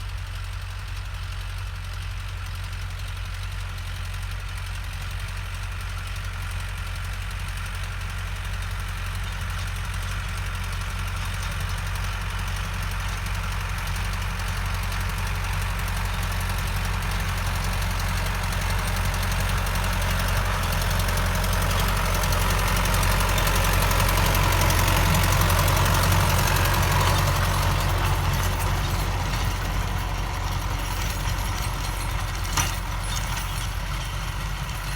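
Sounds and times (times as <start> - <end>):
tractor engine knocking: 0.1 - 34.9.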